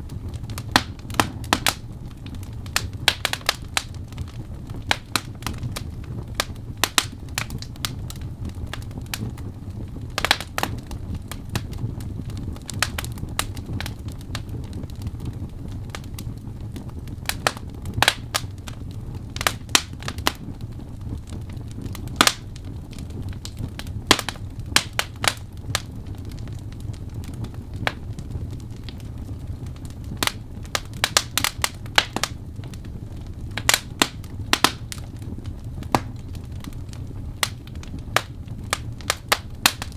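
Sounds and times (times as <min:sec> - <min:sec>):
flames rumbling: 0:00.0 - 0:39.9
wood fire crackling: 0:00.0 - 0:39.9.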